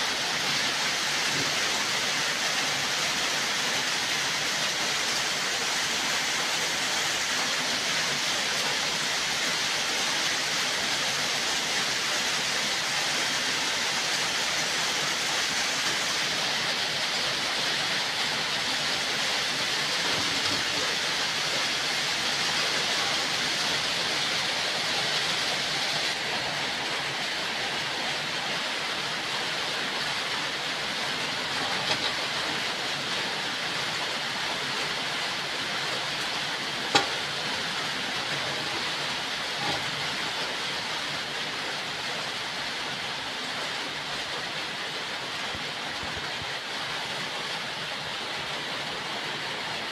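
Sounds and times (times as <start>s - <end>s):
steady hiss: 0.0s - 49.9s.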